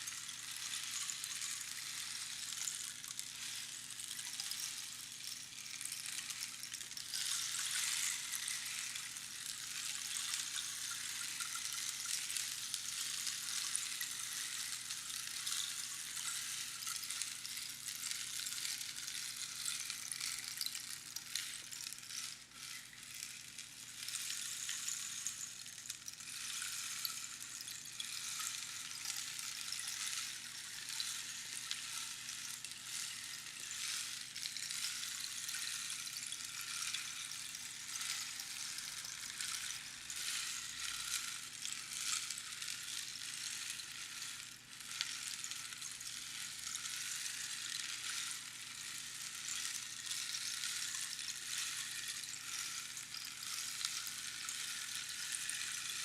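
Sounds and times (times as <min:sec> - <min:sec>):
rainstick pattering: 0:00.0 - 0:56.0.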